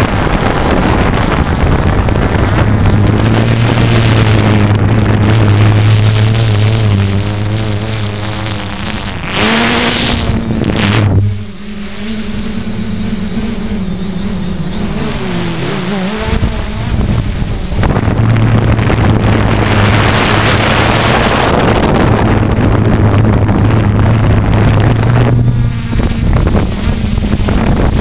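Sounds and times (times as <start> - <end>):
wind buffeting microphone: 0.0 - 11.6, 14.5 - 28.0
drone motors and propellers humming: 0.0 - 28.0.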